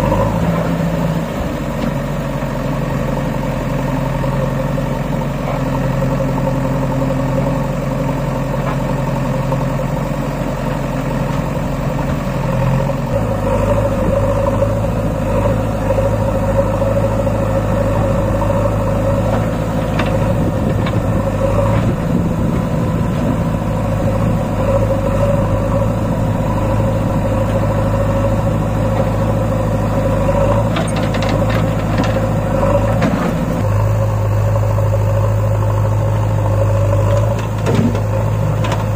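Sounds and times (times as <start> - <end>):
backhoe loader engine running: 0.0 - 38.9
tractor diesel engine running: 0.0 - 38.9.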